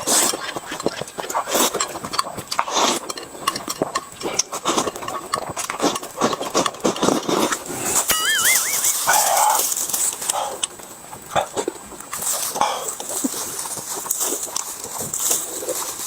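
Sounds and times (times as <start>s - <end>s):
crunching and smacking while eating: 0.0s - 16.0s.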